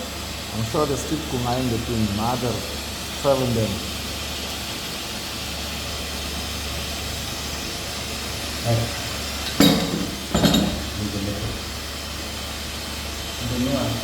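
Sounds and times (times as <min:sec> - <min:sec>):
steady hiss with low hum: 0:00.0 - 0:14.0.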